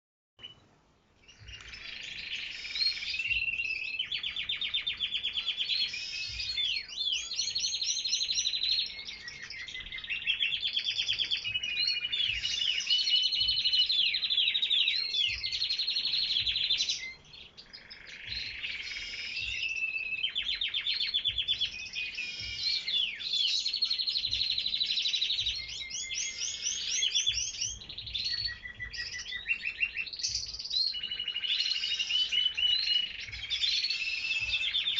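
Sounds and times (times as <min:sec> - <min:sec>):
canaries singing trills: 0:00.4 - 0:34.9.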